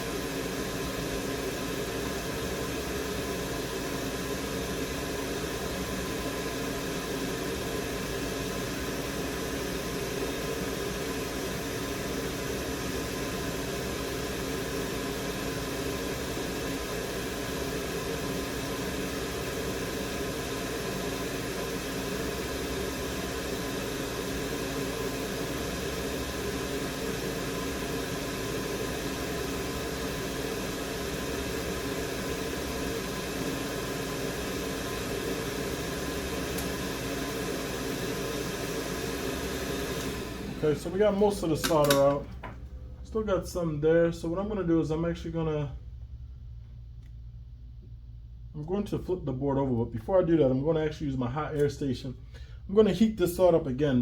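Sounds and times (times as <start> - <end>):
fan humming: 0.0 - 54.0.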